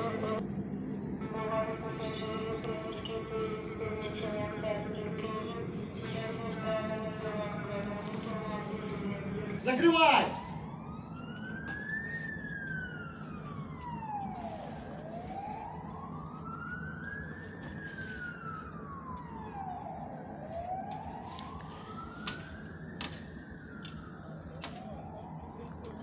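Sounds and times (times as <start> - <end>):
siren wailing: 1.2 - 26.0.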